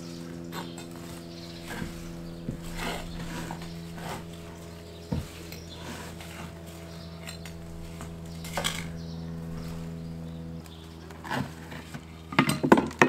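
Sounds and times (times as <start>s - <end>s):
propeller aircraft droning overhead: 0.0s - 12.4s.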